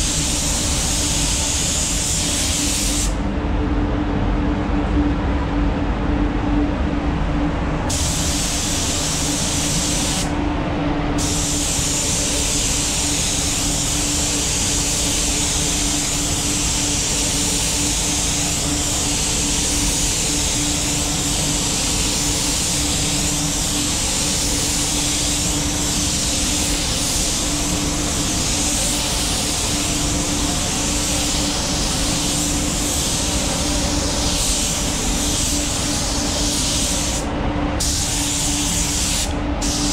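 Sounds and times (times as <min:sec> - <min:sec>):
spray gun hissing: 0:00.0 - 0:03.2, 0:07.9 - 0:10.3, 0:11.2 - 0:39.9
steady low hum: 0:00.0 - 0:39.9.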